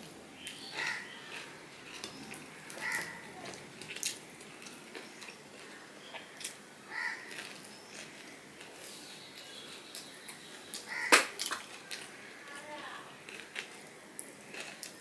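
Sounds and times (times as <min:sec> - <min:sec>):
chewing: 0:00.0 - 0:06.6, 0:07.2 - 0:15.0
fingers mixing food: 0:00.0 - 0:12.6.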